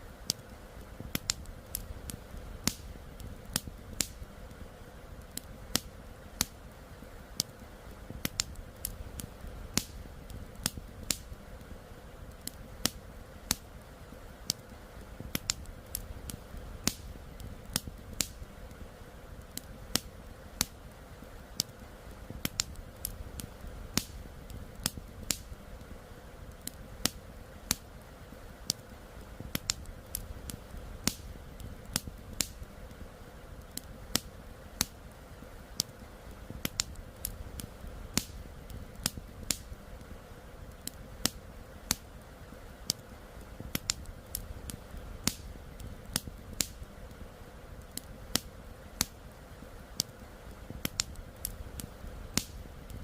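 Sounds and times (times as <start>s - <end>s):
campfire crackling: 0.0s - 53.0s
low steady rumble: 0.0s - 53.0s.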